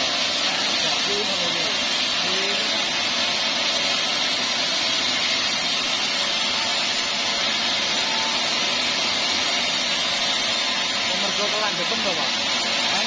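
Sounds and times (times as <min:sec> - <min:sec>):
band sawmill hissing: 0:00.0 - 0:13.0.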